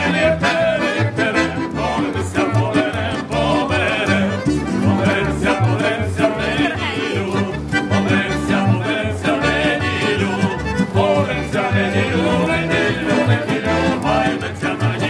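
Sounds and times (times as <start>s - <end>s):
folk band playing: 0.0s - 15.0s
men singing: 0.0s - 15.0s.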